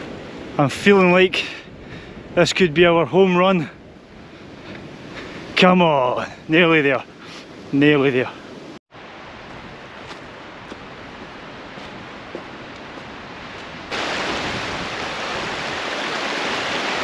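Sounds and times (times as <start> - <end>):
shallow river rushing: 0.0 - 17.0.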